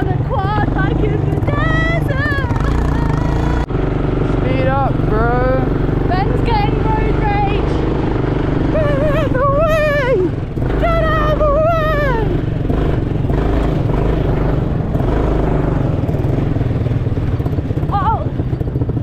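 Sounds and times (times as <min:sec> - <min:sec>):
quad bike engine: 0:00.0 - 0:19.0.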